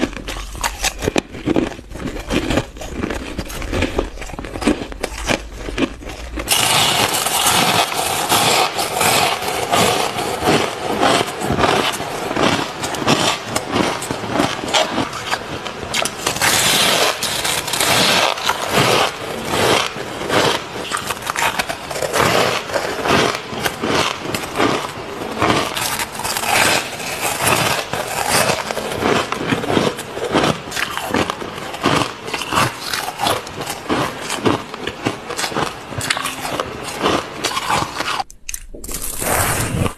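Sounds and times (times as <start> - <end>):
chewing crunchy shaved ice: 0.0 - 39.9.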